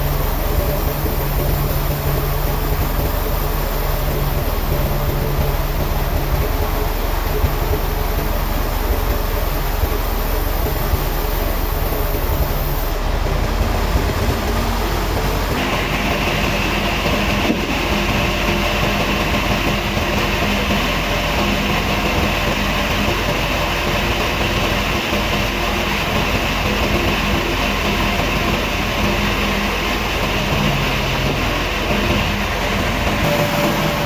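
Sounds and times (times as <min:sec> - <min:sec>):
high steady whine: 0:00.0 - 0:34.0
woodworking machinery running: 0:00.0 - 0:34.0.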